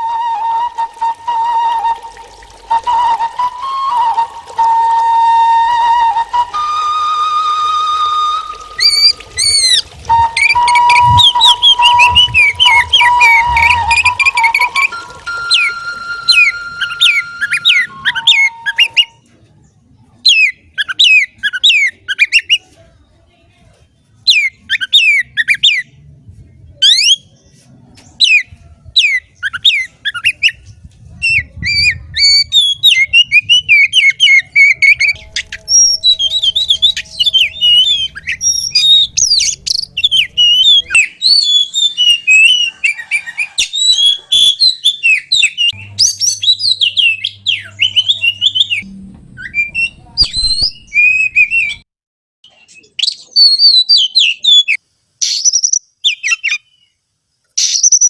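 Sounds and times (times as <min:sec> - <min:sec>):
bird singing whistled song: 0:00.0 - 0:19.2, 0:20.3 - 0:22.6, 0:24.3 - 0:25.9, 0:26.8 - 0:27.4, 0:28.0 - 0:48.8, 0:49.4 - 0:51.8, 0:52.4 - 0:57.0, 0:57.6 - 0:58.0.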